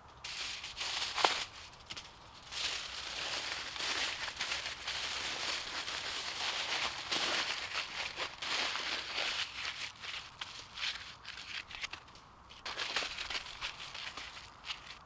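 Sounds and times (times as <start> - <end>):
rustling and crackling noise: 0.0 - 15.0.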